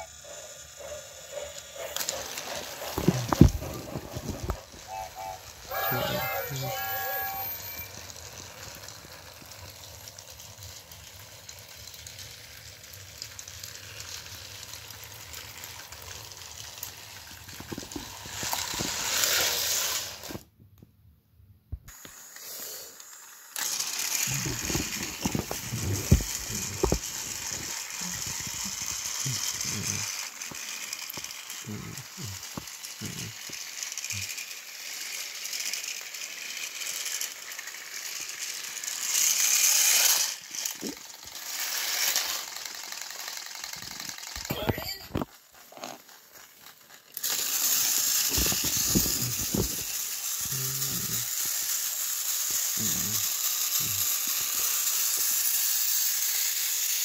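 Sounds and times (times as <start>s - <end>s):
toy train motor humming: 0.0s - 20.4s, 21.9s - 57.0s.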